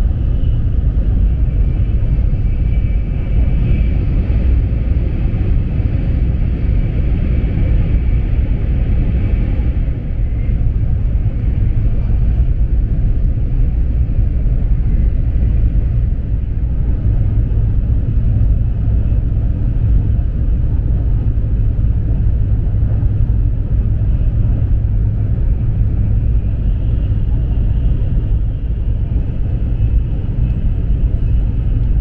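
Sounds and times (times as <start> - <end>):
train cabin rumble: 0.0 - 32.0.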